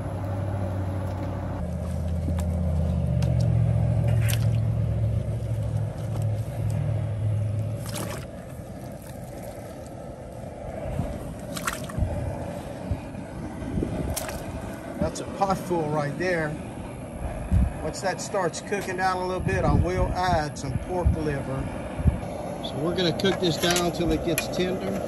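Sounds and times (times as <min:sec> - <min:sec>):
low rumble: 0:00.0 - 0:24.9.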